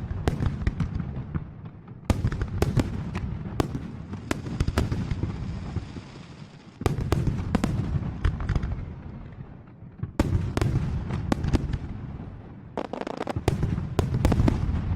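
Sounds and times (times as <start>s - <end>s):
fireworks bursts and crackle: 0.0s - 14.9s
fireworks rumble: 0.0s - 14.9s.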